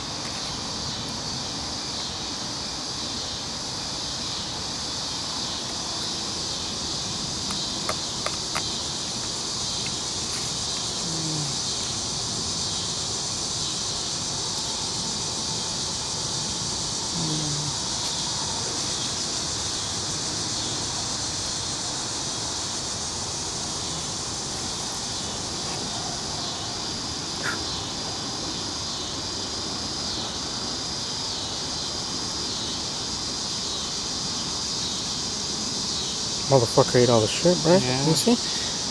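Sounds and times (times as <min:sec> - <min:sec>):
high chorus of insects: 0:00.0 - 0:38.9.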